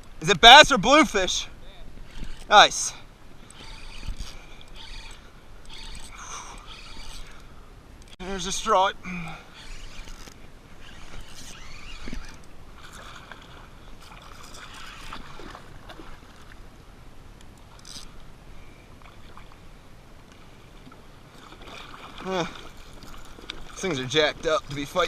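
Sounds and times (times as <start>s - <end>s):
water lapping against kayak hull: 0.0s - 25.0s.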